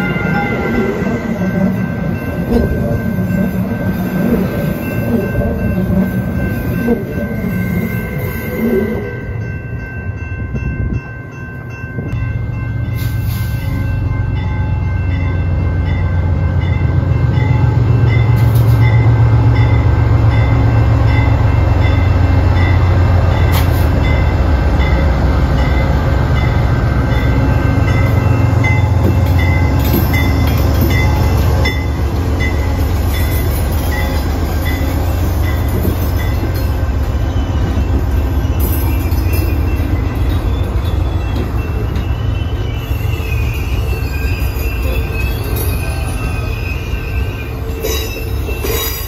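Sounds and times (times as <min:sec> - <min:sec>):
crossing bell dinging: 0:00.0 - 0:49.0
diesel train passing: 0:00.0 - 0:49.0.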